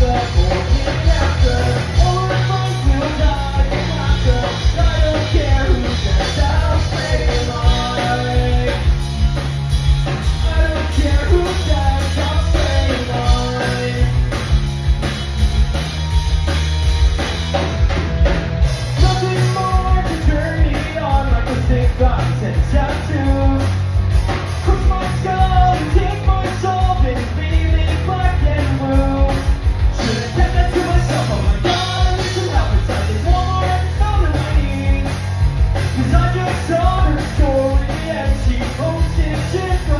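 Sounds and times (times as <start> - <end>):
rock song with vocals: 0.0 - 39.9.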